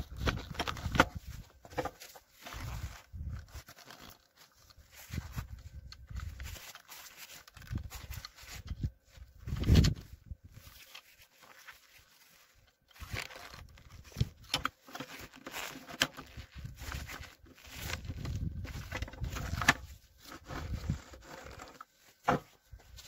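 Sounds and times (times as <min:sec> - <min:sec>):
gloved hands rustling: 0:00.0 - 0:23.0.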